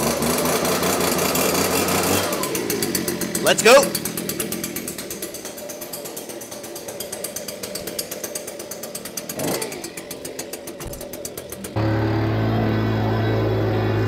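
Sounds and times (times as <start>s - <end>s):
leaf blower engine idling: 0.0s - 14.0s.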